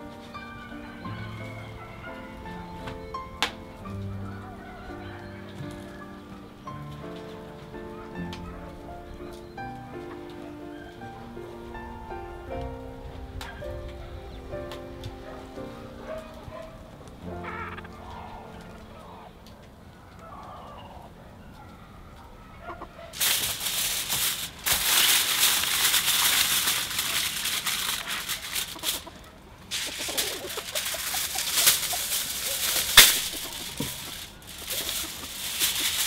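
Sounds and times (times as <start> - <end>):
aluminium foil crinkling: 0.0 - 20.6, 22.7 - 36.0.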